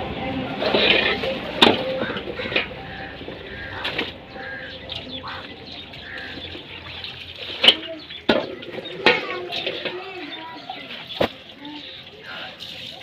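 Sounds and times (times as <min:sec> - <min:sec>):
hose running water into basin: 0:00.6 - 0:13.0.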